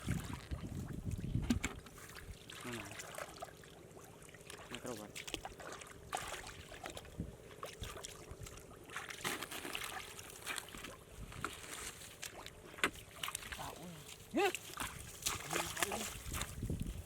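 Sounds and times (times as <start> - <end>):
shallow water splashing and trickling: 0.0 - 17.0.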